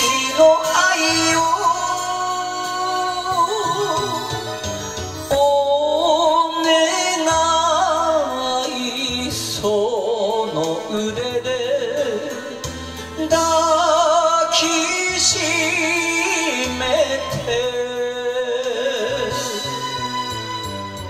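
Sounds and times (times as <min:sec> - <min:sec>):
man singing into a microphone: 0:00.0 - 0:20.4
karaoke backing track: 0:00.0 - 0:21.0.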